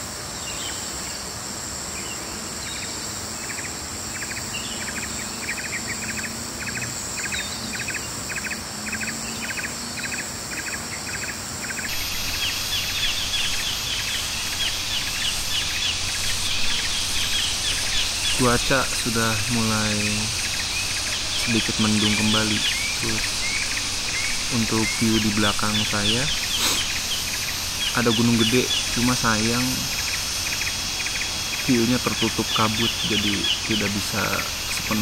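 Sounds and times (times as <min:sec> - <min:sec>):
insect drone: 0:00.0 - 0:35.0
pulsing insect call: 0:00.0 - 0:35.0
bird chirps: 0:03.5 - 0:35.0.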